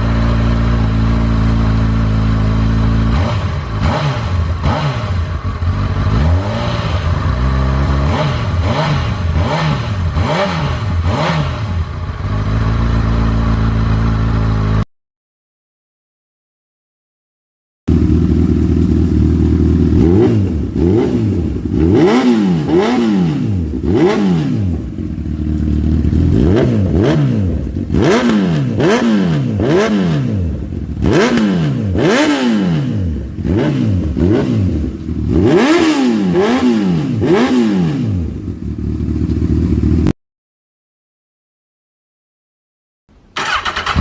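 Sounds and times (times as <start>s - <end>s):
motorcycle engine revving: 0.0s - 14.9s, 17.9s - 40.2s, 43.4s - 44.0s.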